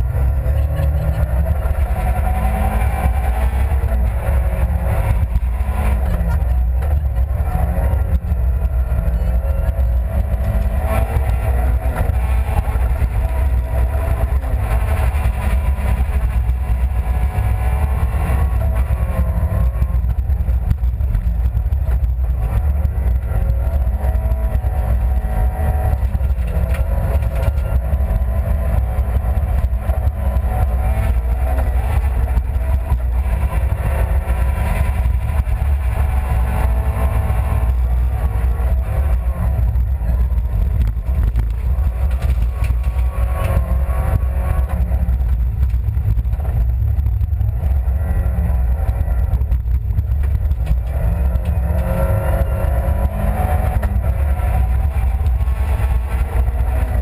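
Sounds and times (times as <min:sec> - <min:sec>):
car engine revving: 0:00.0 - 0:57.0
constant low rumble: 0:00.0 - 0:57.0.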